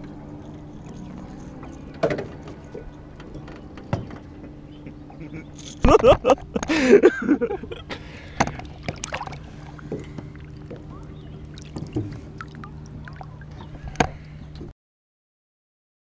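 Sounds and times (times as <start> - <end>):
steady low hum: 0.0 - 14.7
water sloshing against boat: 0.0 - 14.7.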